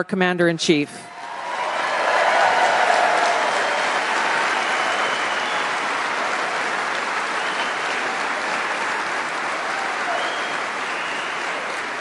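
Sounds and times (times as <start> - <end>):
audience applauding: 1.1 - 12.0.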